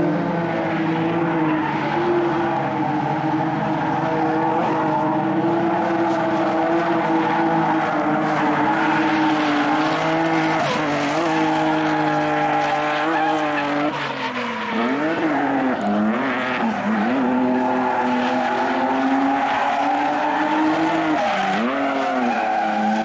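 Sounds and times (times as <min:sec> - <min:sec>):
car engine at high revs: 0:00.0 - 0:23.0
tyres skidding: 0:00.0 - 0:23.0.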